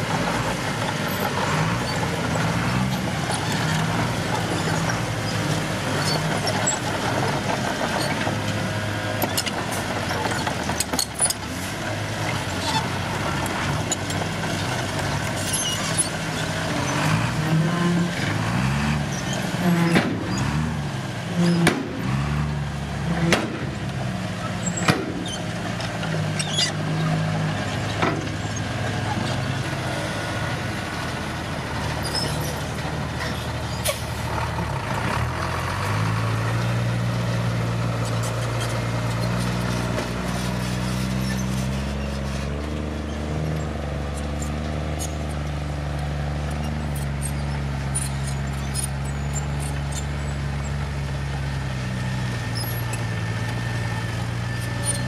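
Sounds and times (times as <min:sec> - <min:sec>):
diesel engines revving: 0:00.0 - 0:55.0.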